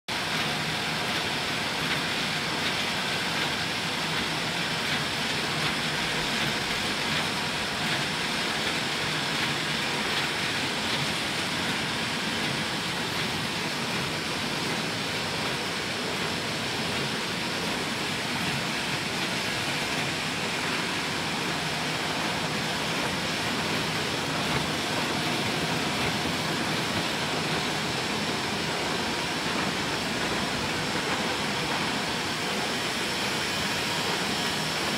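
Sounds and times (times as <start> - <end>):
printing press running: 0.1 - 34.9.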